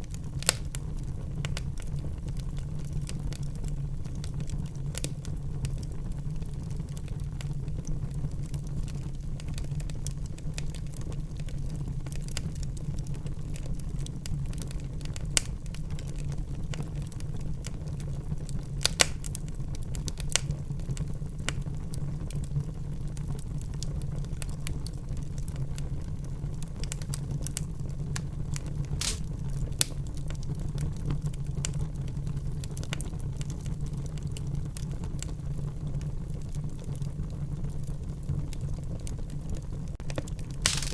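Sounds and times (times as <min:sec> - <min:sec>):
fire flames rumbling: 0:00.0 - 0:40.9
wood fire crackling and popping: 0:00.0 - 0:40.9.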